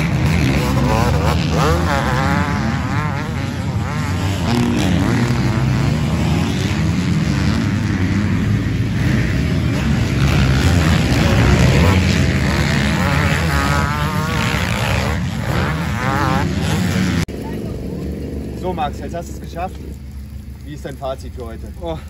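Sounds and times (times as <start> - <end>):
motocross bike engines revving: 0.0 - 22.0.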